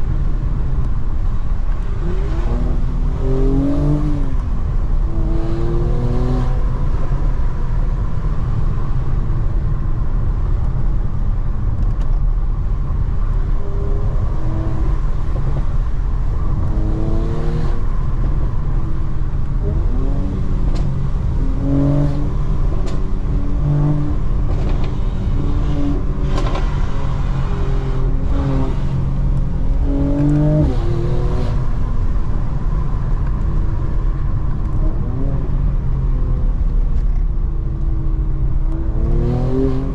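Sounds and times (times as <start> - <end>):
low road rumble: 0.0 - 39.9
car engine accelerating: 1.3 - 7.7, 13.8 - 39.9.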